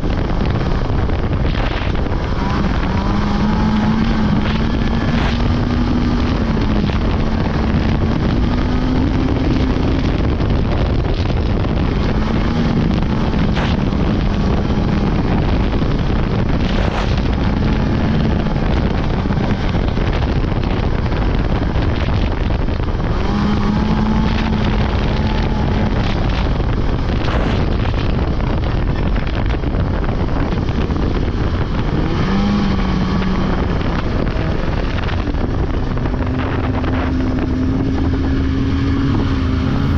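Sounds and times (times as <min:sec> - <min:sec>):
snowmobile engine running: 0:00.0 - 0:39.9
wind buffeting microphone: 0:00.0 - 0:39.9.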